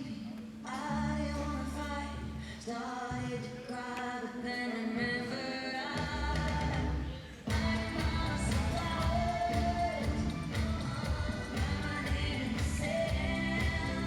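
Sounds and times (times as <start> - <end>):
song with sung notes and bass: 0.0 - 14.0.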